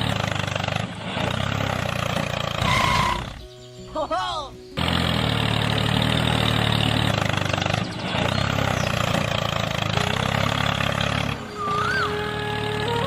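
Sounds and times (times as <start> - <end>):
small engine running: 0.0 - 3.5, 4.7 - 13.0.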